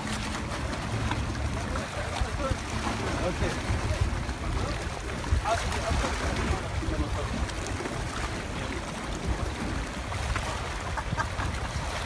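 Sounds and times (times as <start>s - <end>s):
sea water washing against rocks: 0.0s - 12.0s
wind buffeting microphone: 0.0s - 12.0s.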